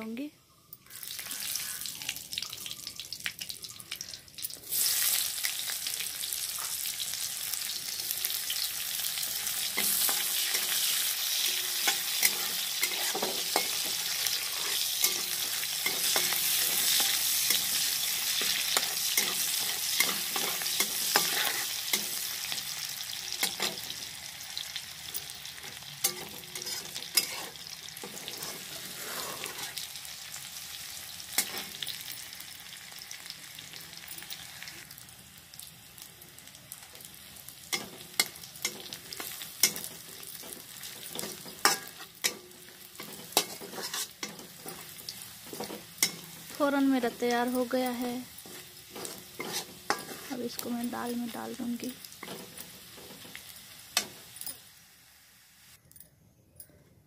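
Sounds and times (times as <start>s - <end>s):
oil sizzling in a pan: 0.8s - 55.8s.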